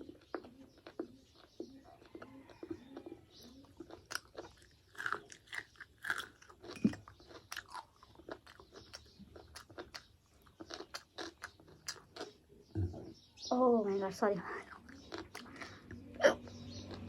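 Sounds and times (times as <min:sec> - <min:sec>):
mouth clicks and crackles: 0:00.0 - 0:12.8, 0:14.4 - 0:17.0
person chewing food: 0:00.0 - 0:12.9, 0:14.6 - 0:17.0.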